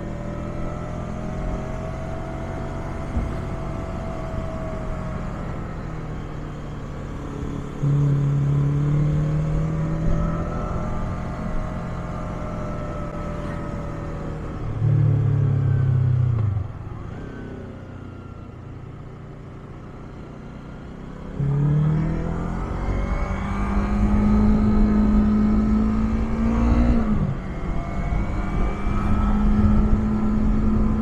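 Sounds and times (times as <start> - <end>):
motorcycle engine revving: 0.0 - 18.3, 20.4 - 31.0.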